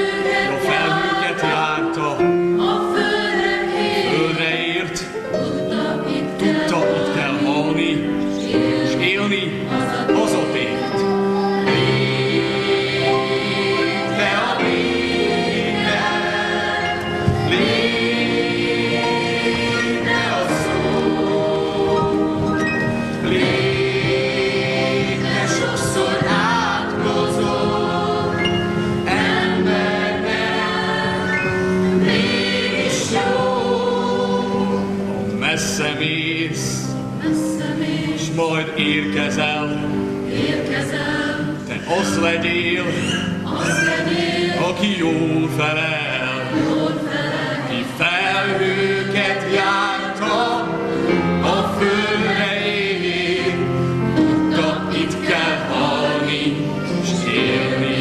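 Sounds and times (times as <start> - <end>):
choir singing: 0.0 - 58.0
piano accompaniment: 0.0 - 58.0.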